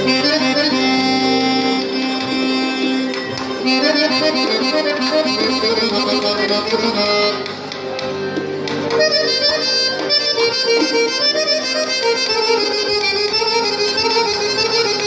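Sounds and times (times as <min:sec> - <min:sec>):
accordion melody: 0:00.0 - 0:15.0
folk ensemble accompanying: 0:00.0 - 0:15.0.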